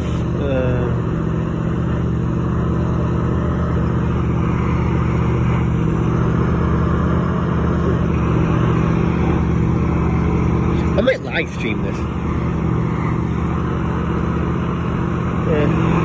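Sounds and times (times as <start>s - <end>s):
train engine droning: 0.0s - 16.0s.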